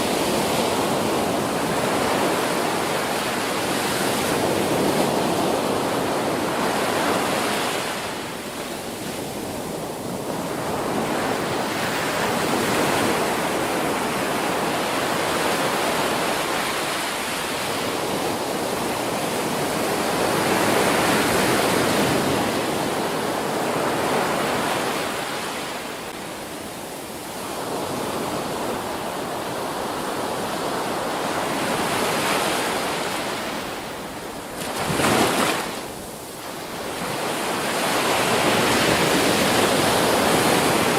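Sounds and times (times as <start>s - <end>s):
waves breaking and washing in: 0.0s - 40.9s.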